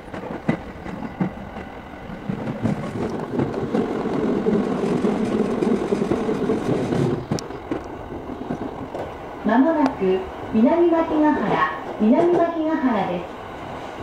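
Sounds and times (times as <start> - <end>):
train wheels clicking on rail joints: 0.0 - 10.0, 11.1 - 12.9
train rumbling in tunnel: 0.0 - 14.0.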